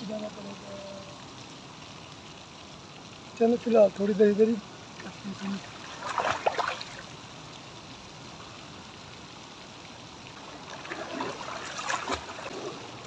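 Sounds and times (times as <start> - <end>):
pool water lapping and splashing: 0.0 - 13.0
steady hiss: 0.0 - 13.0.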